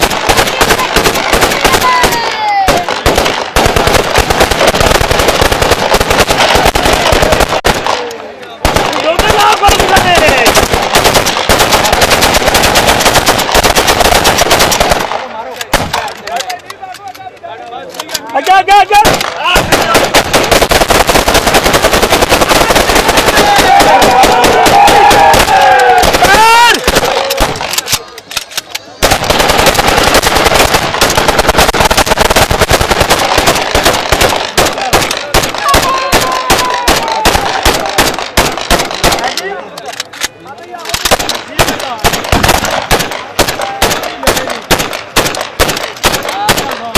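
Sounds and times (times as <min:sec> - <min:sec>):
automatic gunfire bursts: 0:00.0 - 0:08.0, 0:08.6 - 0:16.1, 0:19.0 - 0:28.0, 0:29.0 - 0:39.4, 0:40.9 - 0:46.9
rapid gunshots: 0:00.0 - 0:16.2, 0:18.7 - 0:28.1, 0:28.9 - 0:39.6, 0:40.9 - 0:46.9.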